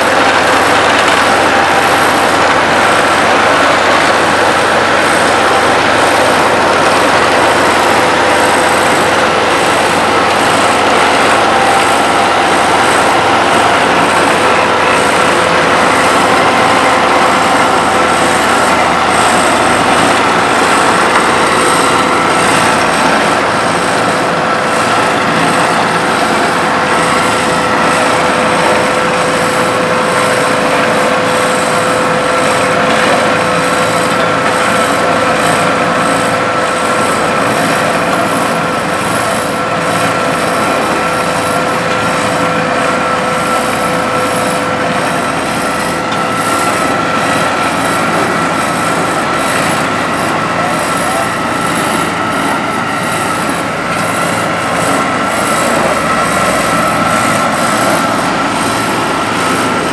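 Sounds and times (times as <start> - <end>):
diesel engine drone: 0.0 - 59.9
high machine whine: 0.0 - 59.9.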